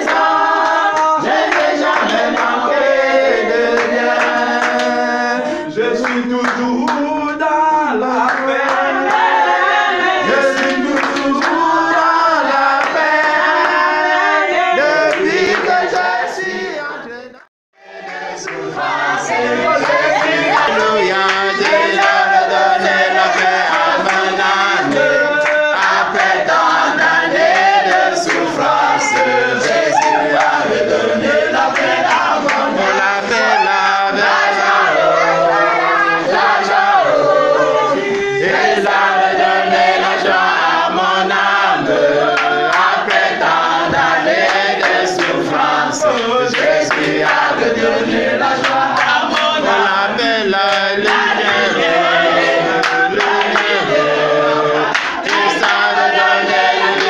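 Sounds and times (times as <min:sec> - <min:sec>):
group singing a worship song: 0:00.0 - 0:57.0.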